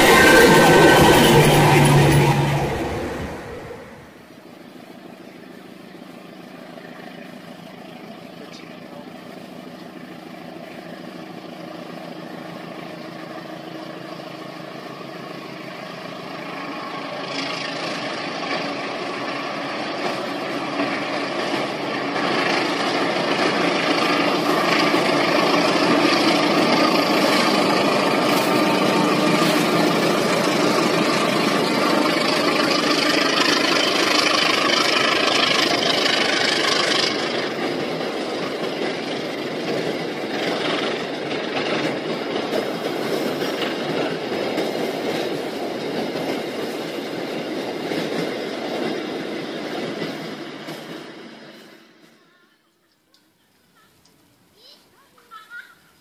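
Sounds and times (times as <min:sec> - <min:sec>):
train wheels on bridge rails: 0:00.0 - 0:52.3
diesel locomotive engine droning: 0:00.0 - 0:54.5.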